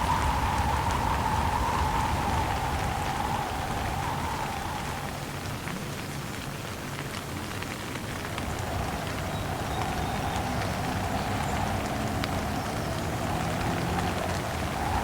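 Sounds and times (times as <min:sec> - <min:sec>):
whistling wind: 0:00.0 - 0:06.3, 0:08.0 - 0:15.0
heavy rain: 0:00.0 - 0:15.0
low rumbling wind: 0:00.0 - 0:15.0.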